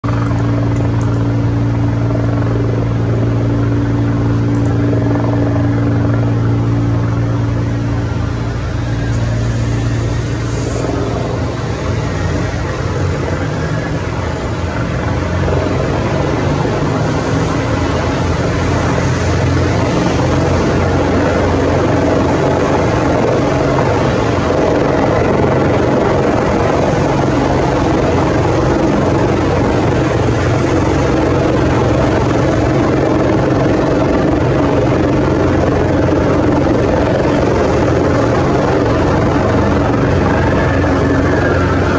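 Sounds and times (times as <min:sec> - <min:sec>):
helicopter rotor and turbine: 0:00.0 - 0:41.9.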